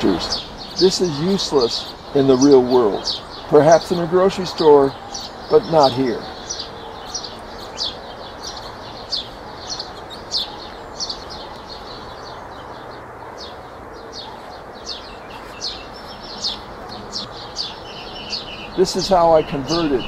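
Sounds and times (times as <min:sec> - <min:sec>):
outdoor background hiss: 0:00.0 - 0:20.0
songbird chirping: 0:00.0 - 0:20.0.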